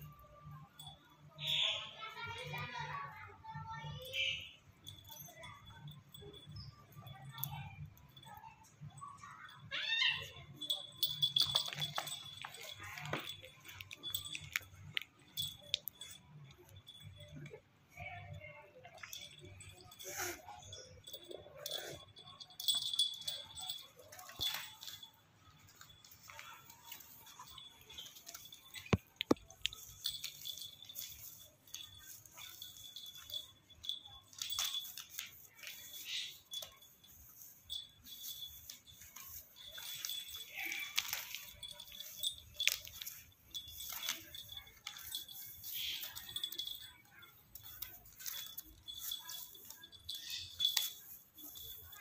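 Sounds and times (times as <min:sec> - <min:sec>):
animals scuffling and scratching: 0:04.8 - 0:52.0.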